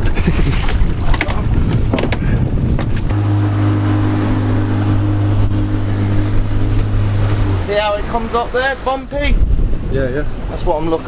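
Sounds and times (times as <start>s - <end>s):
boat engine running: 0.0s - 10.6s
water noise: 0.0s - 11.0s
wind: 0.0s - 11.0s.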